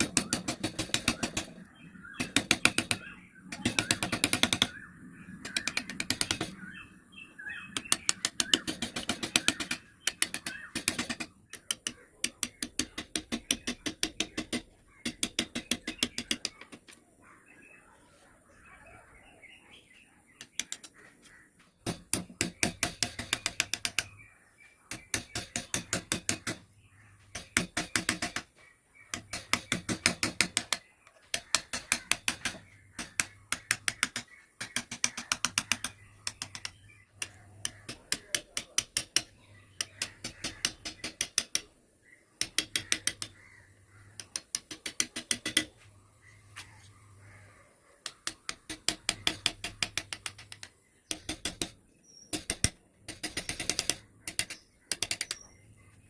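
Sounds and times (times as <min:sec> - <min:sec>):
hand tool clicking on wood: 0:00.0 - 0:04.8, 0:05.4 - 0:06.6, 0:07.7 - 0:17.0, 0:20.4 - 0:21.0, 0:21.8 - 0:24.3, 0:24.9 - 0:41.7, 0:42.4 - 0:45.8, 0:48.0 - 0:55.6.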